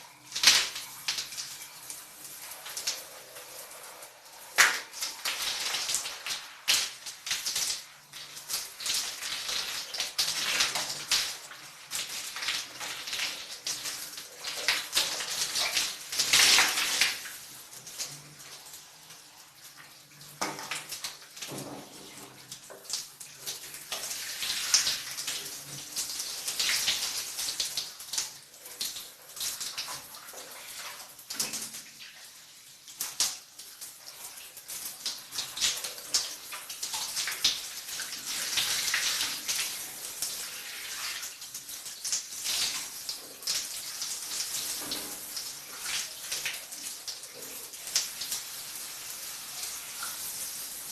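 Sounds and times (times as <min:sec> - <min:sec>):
shower water splashing: 0:00.0 - 0:50.9.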